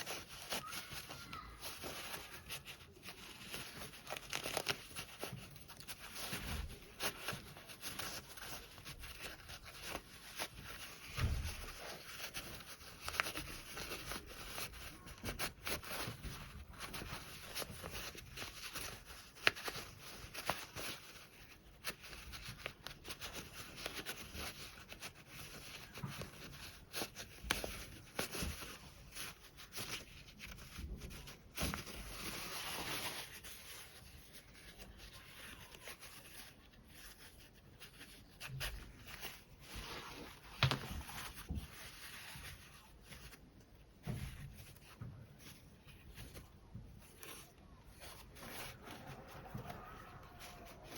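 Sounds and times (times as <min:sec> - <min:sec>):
cloth rustling: 0:00.0 - 0:50.9.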